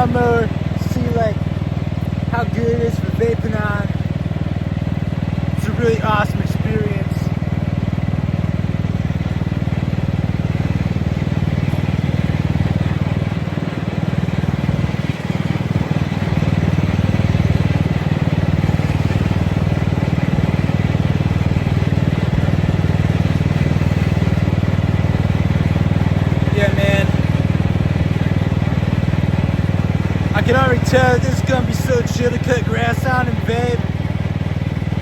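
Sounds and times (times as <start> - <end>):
riding lawn mower engine: 0.0 - 35.0.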